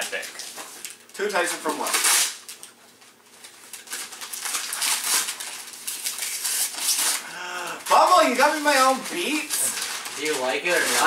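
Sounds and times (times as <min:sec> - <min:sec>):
wrapping paper tearing and crumpling: 0:00.0 - 0:11.0.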